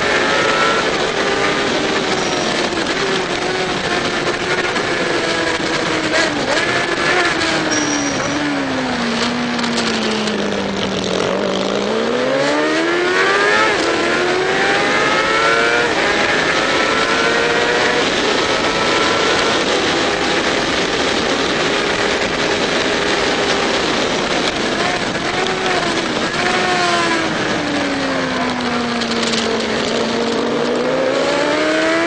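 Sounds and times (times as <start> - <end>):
gear upshift: 0.0 - 32.0
motorcycle engine revving: 0.0 - 32.0
wind rush: 0.0 - 32.0.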